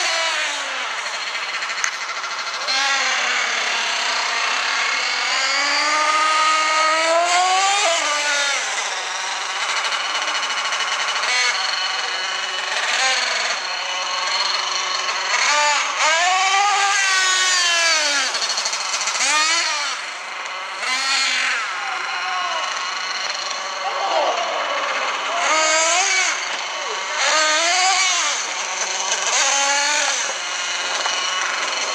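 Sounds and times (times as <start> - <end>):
rc truck engine revving: 0.0 - 31.9.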